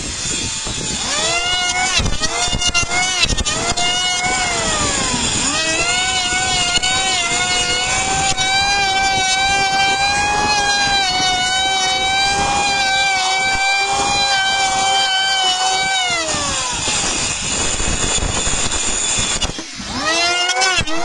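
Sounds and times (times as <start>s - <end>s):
electric planer whining: 0.0s - 21.0s.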